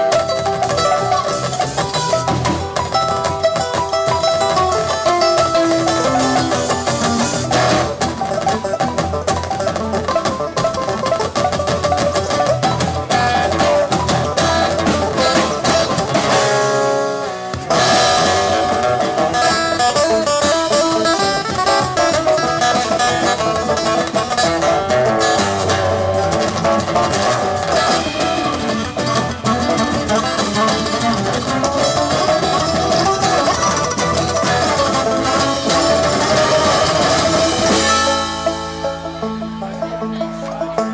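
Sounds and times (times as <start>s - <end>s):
bluegrass band playing: 0.0s - 40.9s.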